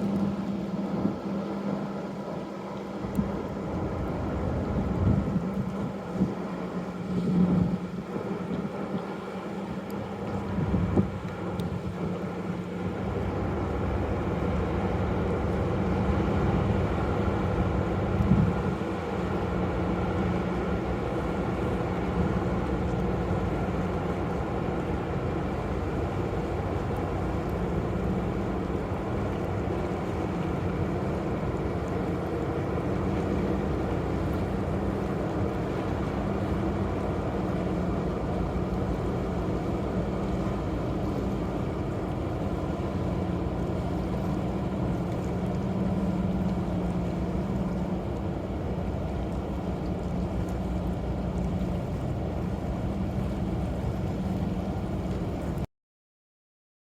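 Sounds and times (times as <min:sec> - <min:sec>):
constant hum: 0:00.0 - 0:55.6
ship engines droning: 0:00.0 - 0:55.6.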